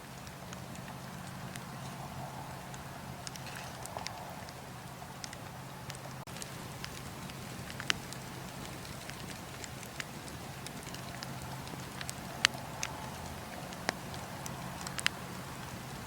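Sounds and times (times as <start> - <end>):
burning wood crackling and popping: 0.0 - 16.0
campfire flames hissing: 0.0 - 16.0.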